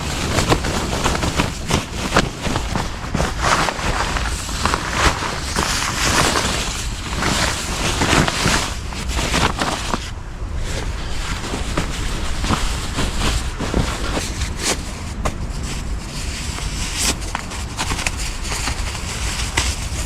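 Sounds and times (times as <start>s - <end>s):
rapid rustling: 0.0s - 20.0s
wind buffeting microphone: 0.0s - 20.0s.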